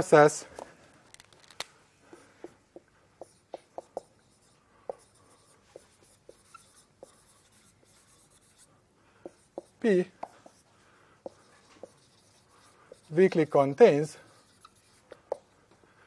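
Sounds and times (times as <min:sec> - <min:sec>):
marker writing on whiteboard: 0:02.1 - 0:15.7.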